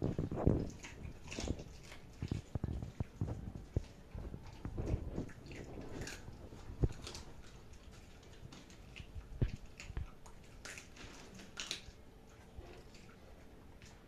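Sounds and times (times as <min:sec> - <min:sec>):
dog chewing raw meat: 0:00.0 - 0:14.0.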